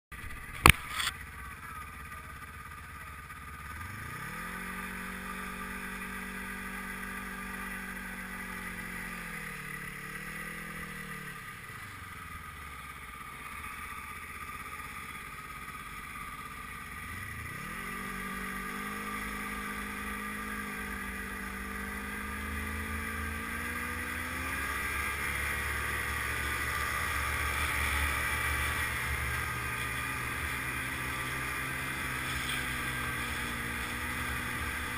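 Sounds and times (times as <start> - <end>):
snowmobile engine revving: 3.4 - 34.9.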